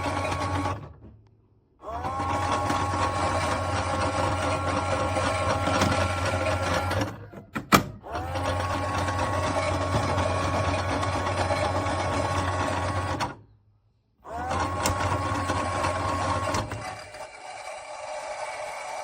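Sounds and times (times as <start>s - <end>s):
toy washing machine whirring: 0.0s - 0.9s, 1.8s - 13.4s, 14.3s - 19.0s.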